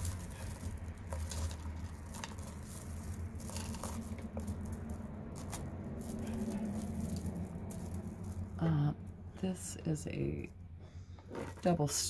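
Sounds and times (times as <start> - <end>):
bead necklaces clicking and rattling: 0.0 - 10.5
steady low hum: 0.0 - 12.0.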